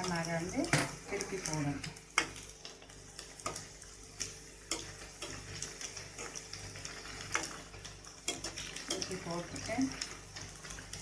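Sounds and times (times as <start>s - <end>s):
bread deep-frying in hot oil: 0.0s - 11.0s.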